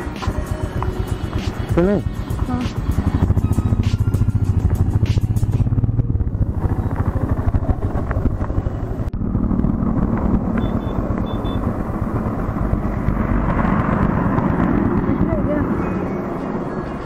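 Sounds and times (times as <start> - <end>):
motorcycle engine running: 0.0 - 17.0
wind rush on microphone: 0.6 - 17.0.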